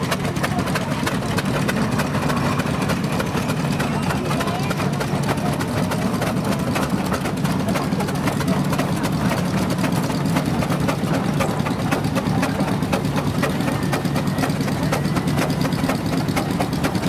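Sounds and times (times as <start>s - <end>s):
steam engine mechanical clatter: 0.0s - 17.0s.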